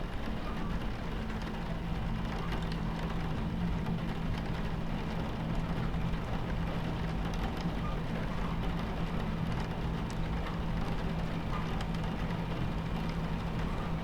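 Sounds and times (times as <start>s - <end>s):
rain pattering on window: 0.0s - 14.0s
train carriage rumble and hum: 0.0s - 14.0s.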